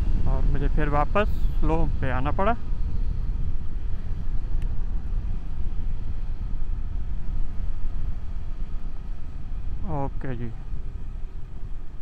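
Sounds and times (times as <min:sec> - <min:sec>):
wind and road rush: 0:00.0 - 0:12.0.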